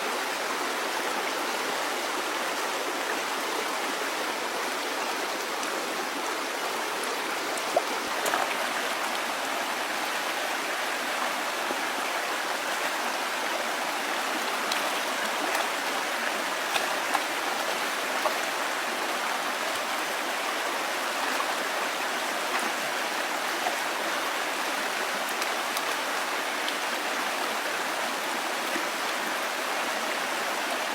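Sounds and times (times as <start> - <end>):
running water: 4.8 - 30.9.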